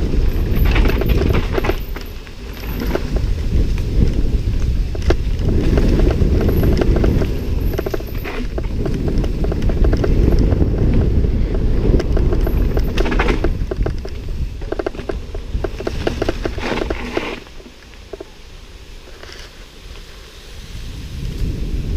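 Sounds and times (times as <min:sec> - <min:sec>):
wind buffeting microphone: 0:00.0 - 0:19.1, 0:19.8 - 0:21.9
bike clattering over bumps: 0:00.0 - 0:19.5
tyres crunching over gravel: 0:00.0 - 0:20.1.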